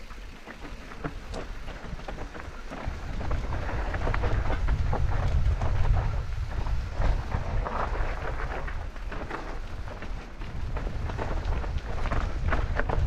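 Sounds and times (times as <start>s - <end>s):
bike tyre noise: 0.0s - 13.0s
wind buffeting microphone: 0.0s - 13.0s.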